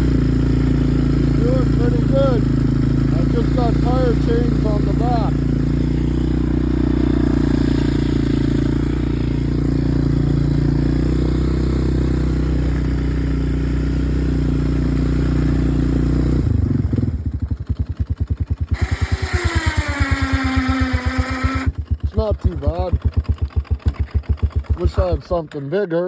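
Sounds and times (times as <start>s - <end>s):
atv engine running under load: 0.0s - 26.0s.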